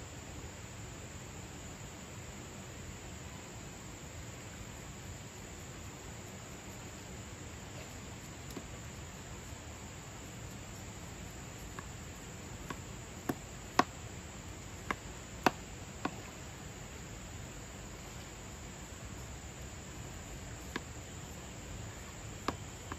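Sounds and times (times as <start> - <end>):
insects droning: 0.0 - 22.9.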